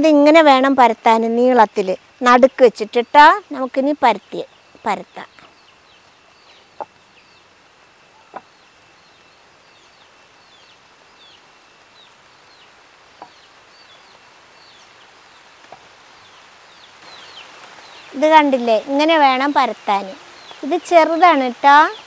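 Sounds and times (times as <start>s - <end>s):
high insect-like whine: 0.0s - 22.0s
birds chirping: 0.2s - 22.0s.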